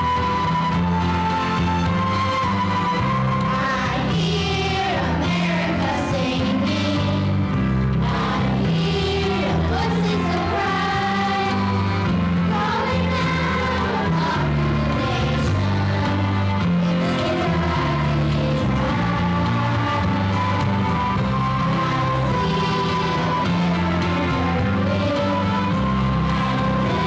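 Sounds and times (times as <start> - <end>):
children singing: 3.4 - 7.4, 8.0 - 27.0.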